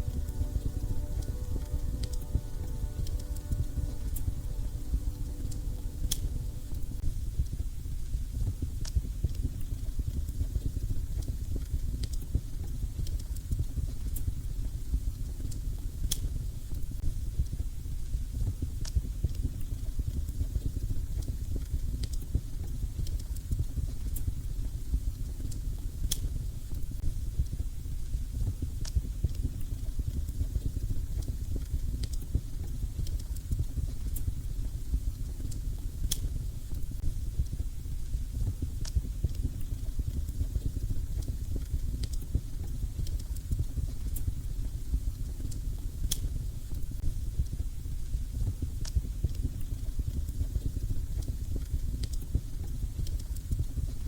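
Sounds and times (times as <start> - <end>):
low rumble of flames: 0.0 - 54.0.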